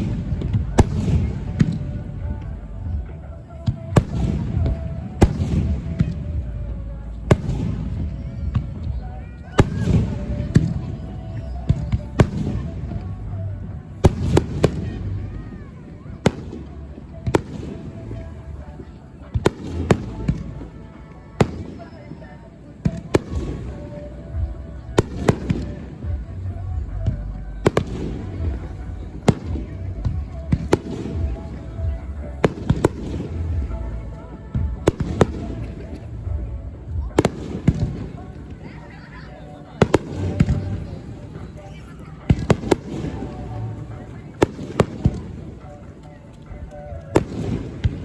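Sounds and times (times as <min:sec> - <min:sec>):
fireworks bangs: 0:00.0 - 0:06.5, 0:07.2 - 0:13.1, 0:13.9 - 0:26.3, 0:27.0 - 0:36.1, 0:36.9 - 0:39.0, 0:39.6 - 0:48.0
low rumble of fireworks: 0:00.0 - 0:48.0.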